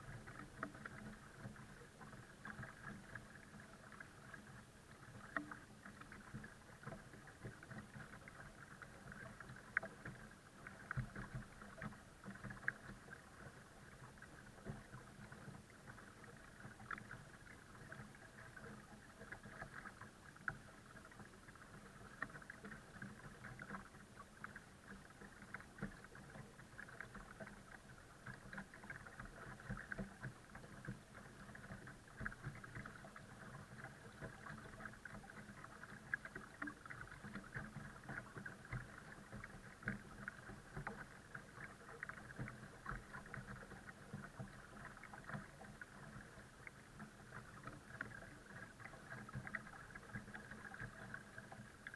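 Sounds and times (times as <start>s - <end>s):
small water splashes: 0.0s - 51.9s
water lapping along a hull: 0.0s - 51.9s.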